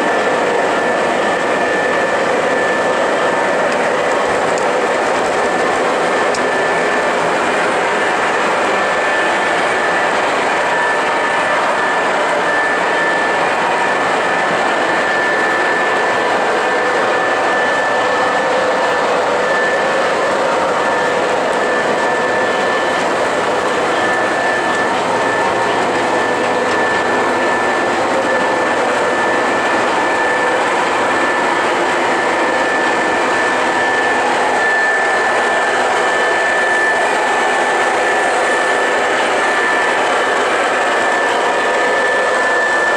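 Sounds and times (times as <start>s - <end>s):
model train rolling: 0.0s - 34.8s.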